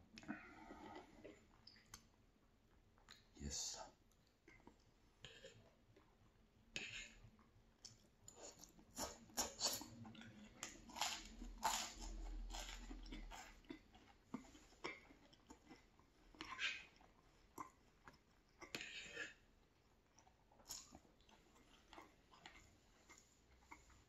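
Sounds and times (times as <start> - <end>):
chewing crunchy toast: 4.1 - 24.0.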